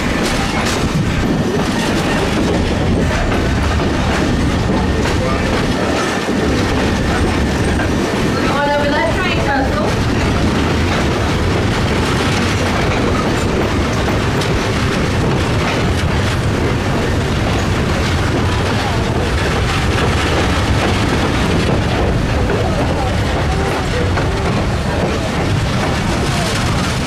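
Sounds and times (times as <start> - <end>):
passenger train rolling on rails: 0.0 - 27.0.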